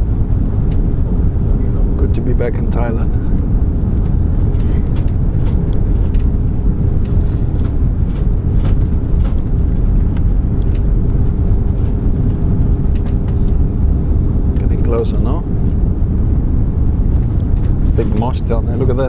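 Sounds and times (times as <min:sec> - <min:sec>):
aircraft cabin engine rumble: 0:00.0 - 0:19.0
faint hum: 0:00.0 - 0:19.0.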